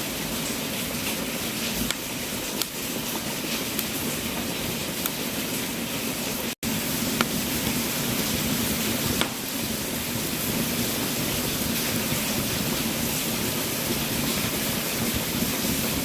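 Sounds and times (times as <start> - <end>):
wood fire hissing: 0.0 - 16.0
fire crackles and pops: 0.2 - 16.0.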